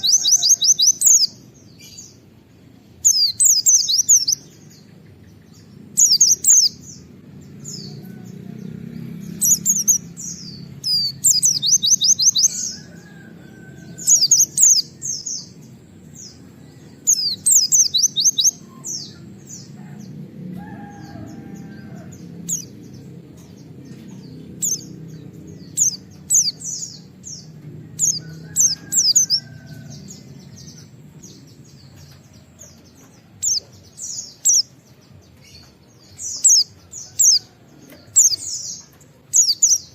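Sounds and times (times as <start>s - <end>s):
steady low hum: 0.8s - 39.9s.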